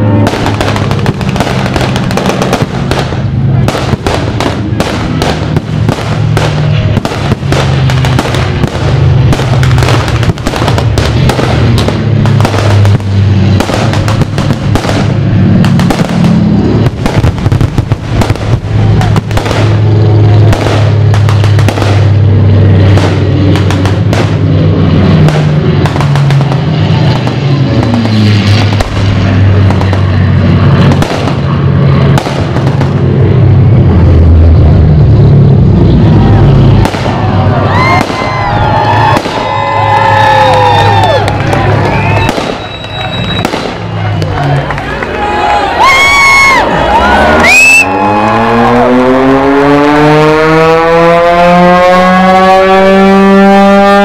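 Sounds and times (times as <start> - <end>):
fireworks bangs: 0.0 - 50.2.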